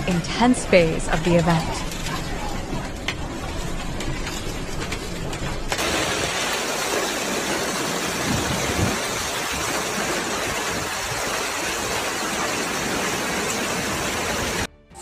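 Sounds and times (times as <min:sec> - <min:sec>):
heavy rain pounding: 0:00.0 - 0:14.7.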